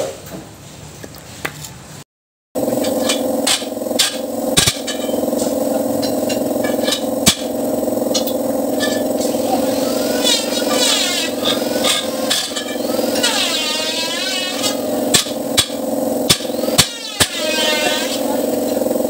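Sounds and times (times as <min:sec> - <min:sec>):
steady mechanical drone: 0:02.6 - 0:19.0.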